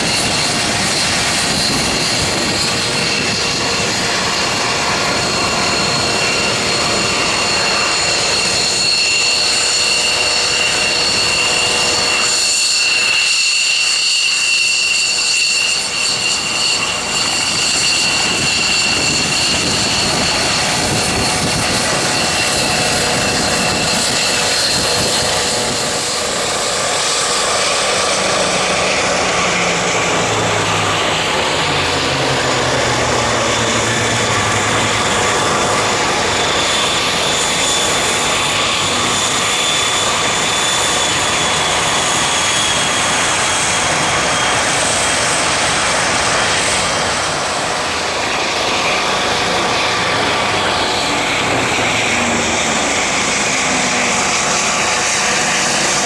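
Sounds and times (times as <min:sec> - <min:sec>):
airplane engine in flight: 0:00.0 - 0:56.0
held tones gliding in pitch: 0:00.1 - 0:56.0.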